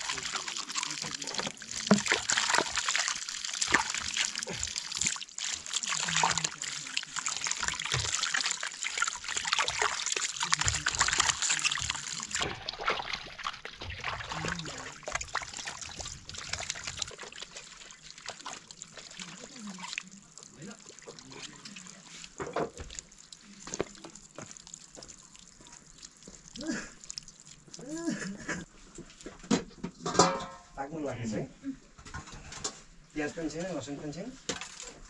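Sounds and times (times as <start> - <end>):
water splashing in metal basin: 0.0 - 28.2, 34.4 - 35.0.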